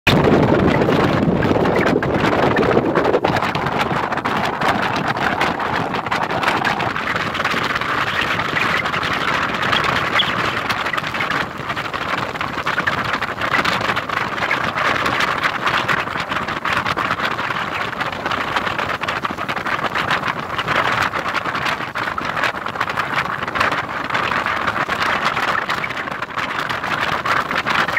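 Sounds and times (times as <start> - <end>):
motorboat engine running: 0.1 - 27.9
wind buffeting microphone: 0.1 - 27.9.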